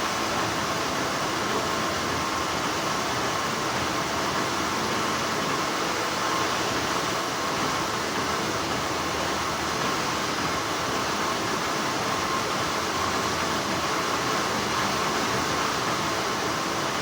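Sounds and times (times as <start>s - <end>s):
textile machinery running: 0.0s - 17.0s.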